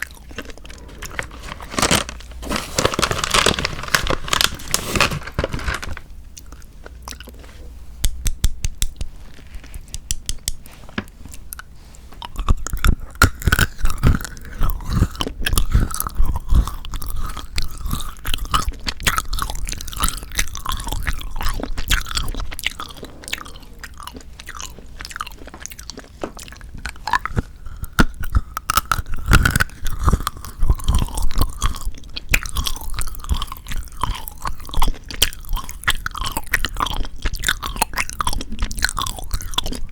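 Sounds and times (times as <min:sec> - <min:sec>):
chocolate crunching: 0:00.0 - 0:39.9.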